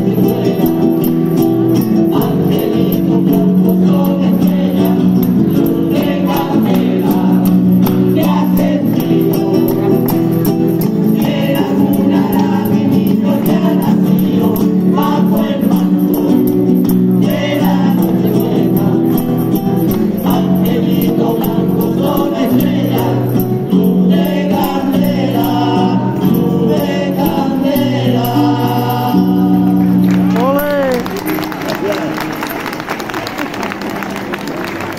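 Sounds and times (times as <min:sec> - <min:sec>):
choir singing: 0:00.0 - 0:30.0
jingling tambourine: 0:00.0 - 0:34.3
acoustic guitar: 0:00.0 - 0:34.9.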